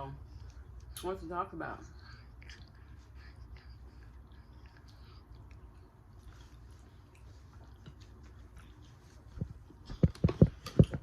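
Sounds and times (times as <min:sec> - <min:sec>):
low steady hum: 0:00.0 - 0:11.0
person chewing: 0:01.9 - 0:11.0.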